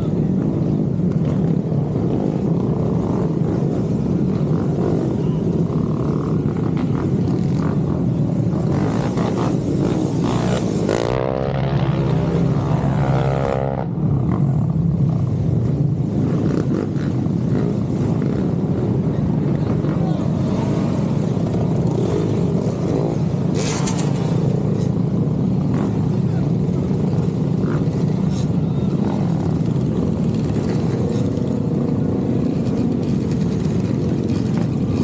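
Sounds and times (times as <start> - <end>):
wind and road noise: 0.0 - 35.0
motorcycle engine revving: 1.1 - 15.4, 16.0 - 35.0.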